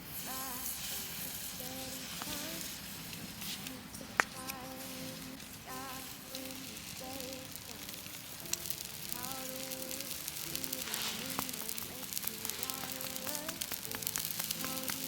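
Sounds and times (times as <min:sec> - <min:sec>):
sizzling and crackling: 0:00.0 - 0:15.0
slow melodic background music: 0:00.0 - 0:15.0
small pops: 0:01.9 - 0:15.0.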